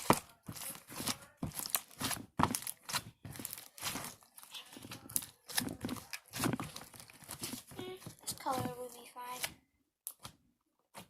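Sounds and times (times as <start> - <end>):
hands squishing slime: 0.0 - 11.0.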